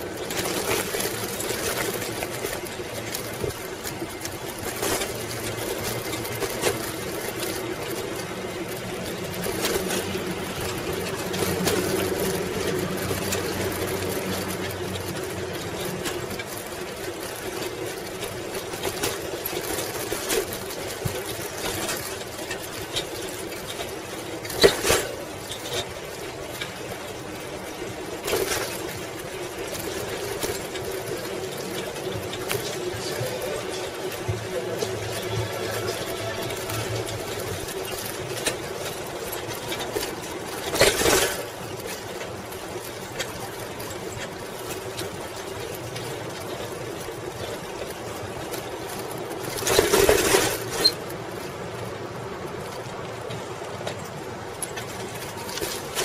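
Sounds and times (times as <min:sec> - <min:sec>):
bicycle knocking over bumps: 0:00.0 - 0:56.0
bicycle rattling and rolling: 0:00.0 - 0:56.0.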